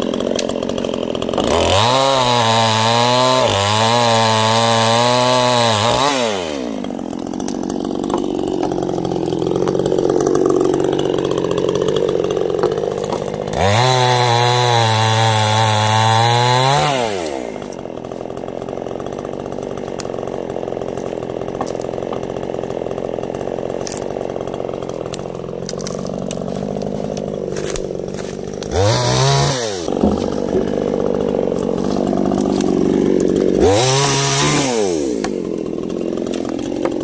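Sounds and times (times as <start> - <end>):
chainsaw idling and revving: 0.0 - 37.0.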